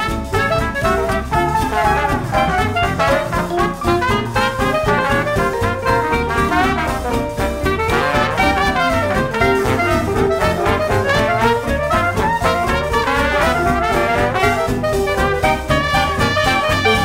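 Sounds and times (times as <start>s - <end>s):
brass swing jazz: 0.0s - 17.0s.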